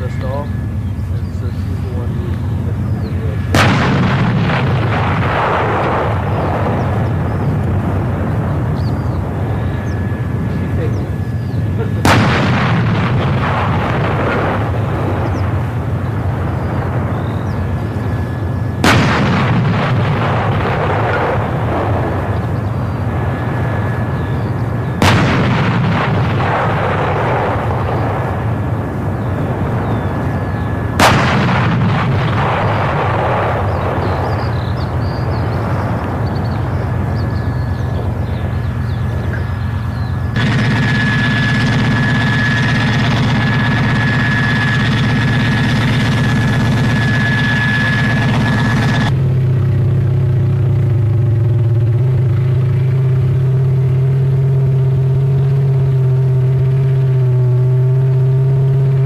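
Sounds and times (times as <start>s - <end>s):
howitzer firing blasts: 0.0s - 59.0s
steady low rumble: 0.0s - 59.0s.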